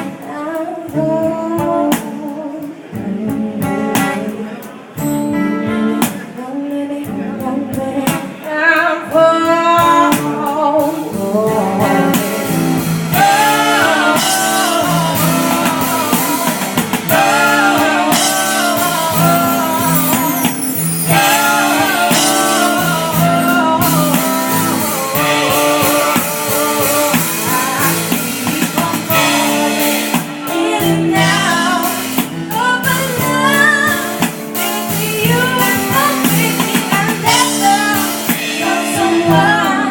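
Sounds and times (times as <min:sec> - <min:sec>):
band playing mellow song: 0:00.0 - 0:39.9
person singing: 0:05.6 - 0:39.9.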